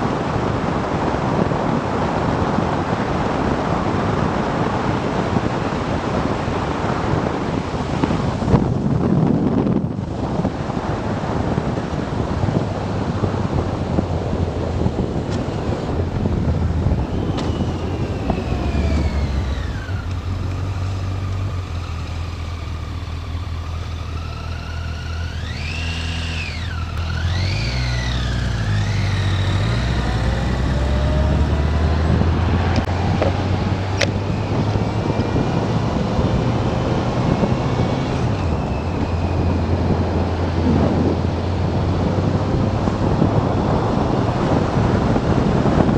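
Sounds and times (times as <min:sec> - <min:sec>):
motorcycle engine: 0:00.0 - 0:45.9
wind rush on microphone: 0:00.0 - 0:45.9.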